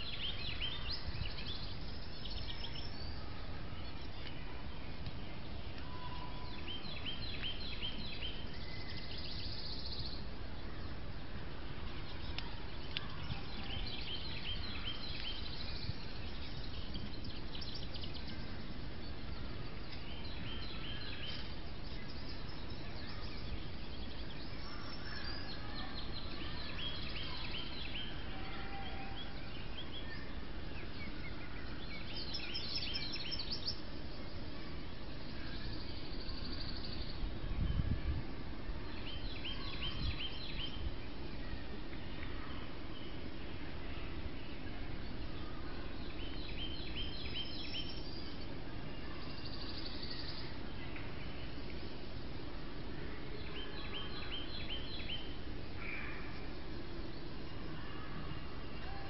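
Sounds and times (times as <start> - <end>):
low background noise: 0.0 - 59.0
songbird singing: 0.0 - 59.0.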